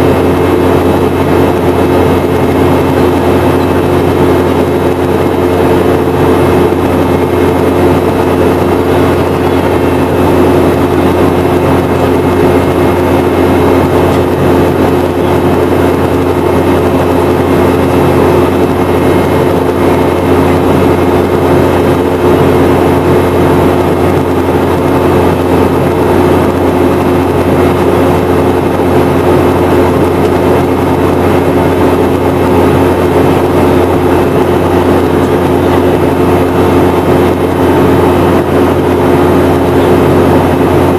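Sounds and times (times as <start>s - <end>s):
jet engine drone in cabin: 0.0s - 40.9s
rushing air noise: 0.0s - 40.9s.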